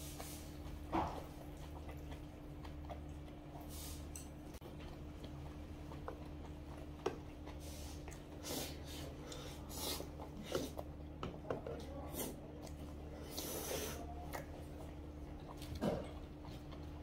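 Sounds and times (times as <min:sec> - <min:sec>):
person chewing food: 0:00.0 - 0:17.0
steady low hum: 0:00.0 - 0:17.0.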